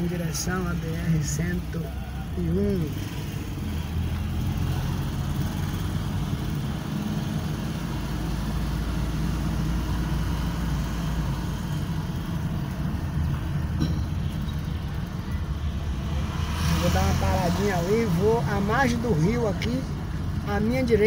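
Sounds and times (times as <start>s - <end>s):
car engine and tyres humming: 0.0s - 21.0s.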